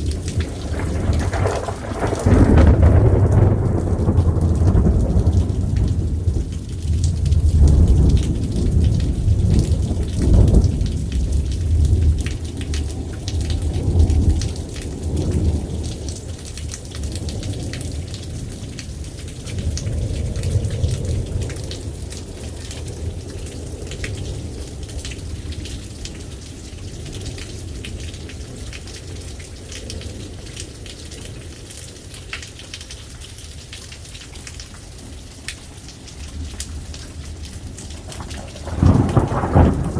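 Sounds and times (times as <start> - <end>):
thunder rumbling: 0.0 - 32.0, 34.6 - 39.9
raindrops ticking: 0.0 - 39.9
steady rain: 0.0 - 39.9.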